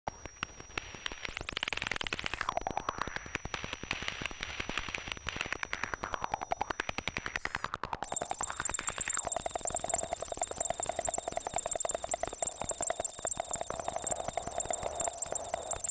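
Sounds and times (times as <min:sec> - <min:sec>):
fast stream of electronic clicks: 0:00.1 - 0:15.9.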